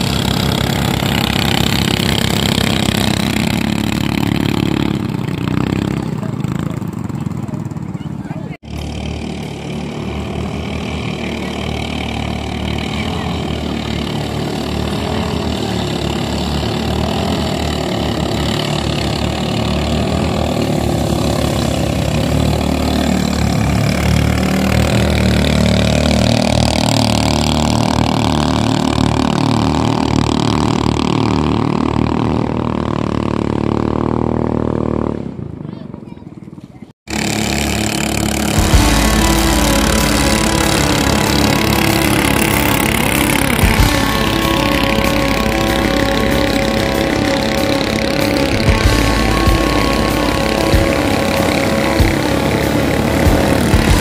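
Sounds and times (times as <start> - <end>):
boat engines at high revs: 0.0 - 35.6, 36.4 - 54.0.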